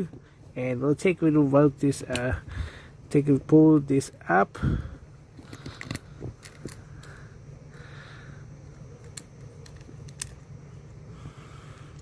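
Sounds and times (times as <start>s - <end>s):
low steady hum: 0.0s - 12.0s
rustling of wires: 0.0s - 12.0s.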